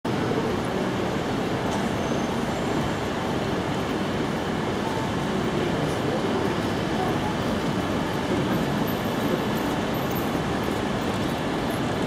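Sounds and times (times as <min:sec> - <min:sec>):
city traffic rumble: 0:00.0 - 0:12.0
street bustle: 0:00.0 - 0:12.0.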